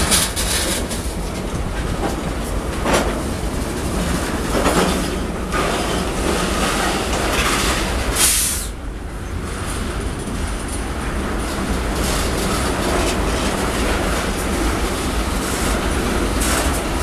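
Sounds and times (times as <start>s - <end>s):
train wheels clattering on rail: 0.0s - 17.0s.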